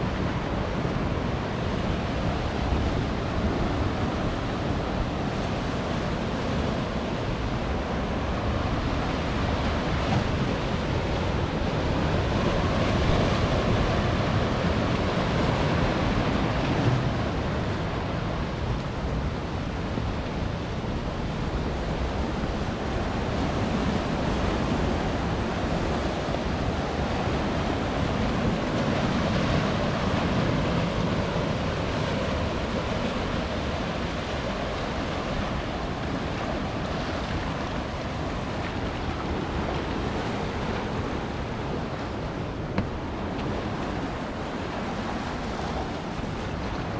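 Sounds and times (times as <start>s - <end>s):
waves breaking on rocks: 0.0s - 20.5s, 21.2s - 46.9s.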